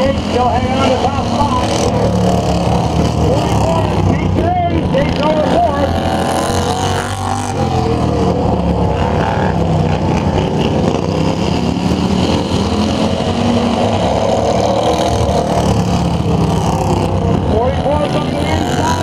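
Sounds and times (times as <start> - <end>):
lawn tractor engines racing: 0.0 - 19.0.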